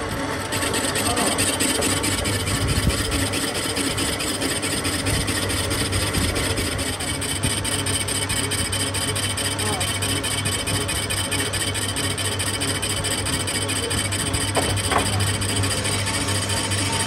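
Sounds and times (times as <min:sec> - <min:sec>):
cutting tool scraping metal: 0:00.0 - 0:17.0
lathe humming: 0:00.0 - 0:17.0.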